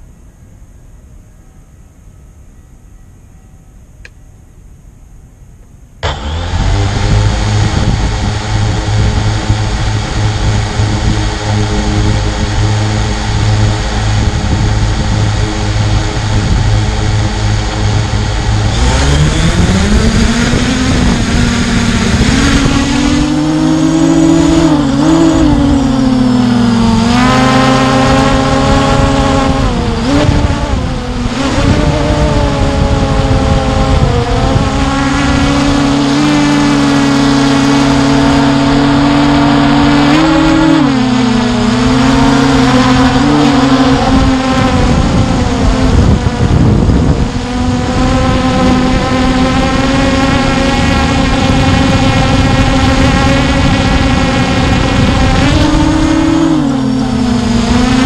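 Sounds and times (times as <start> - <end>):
drone motors humming: 5.6 - 58.0.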